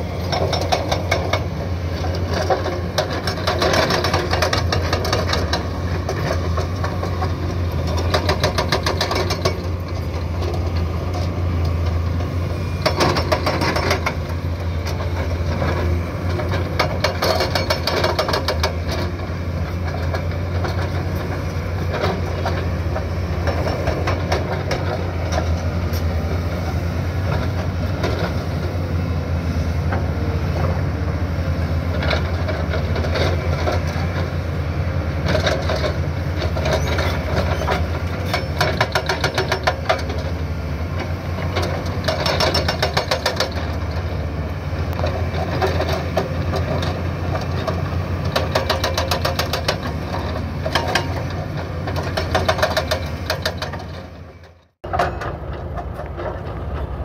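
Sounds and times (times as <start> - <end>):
diesel engines droning: 0.0 - 57.0
hydraulic breakers pounding asphalt: 0.0 - 57.0.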